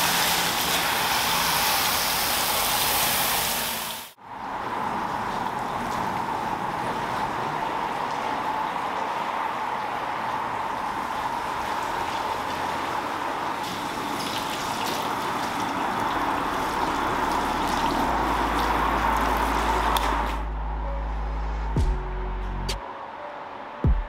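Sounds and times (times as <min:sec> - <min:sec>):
water spraying on car: 0:00.0 - 0:20.4.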